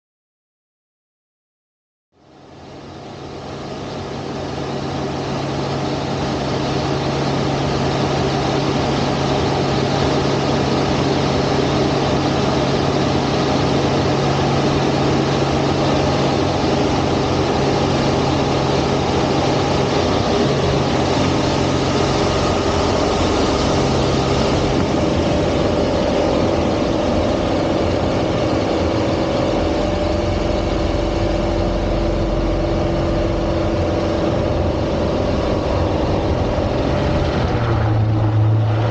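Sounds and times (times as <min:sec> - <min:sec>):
airplane piston engine running: 0:02.6 - 0:37.5.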